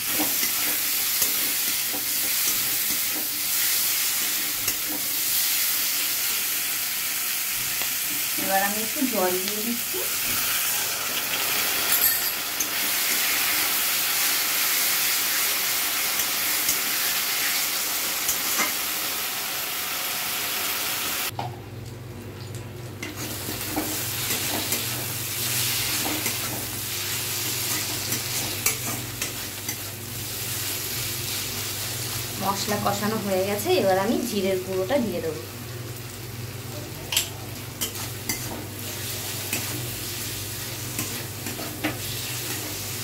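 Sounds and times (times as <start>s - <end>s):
spices frying and sizzling: 0.0s - 43.0s.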